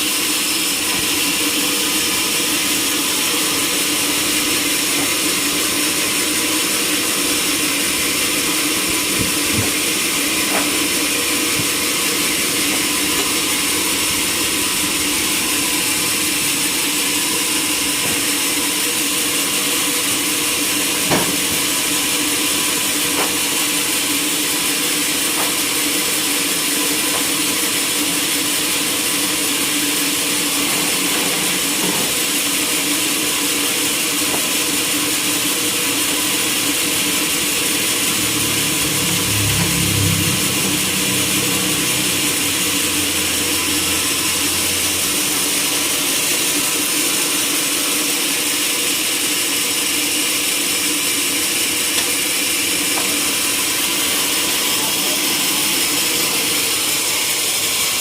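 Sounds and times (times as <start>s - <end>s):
sawmill machinery hissing and humming: 0.0s - 58.0s.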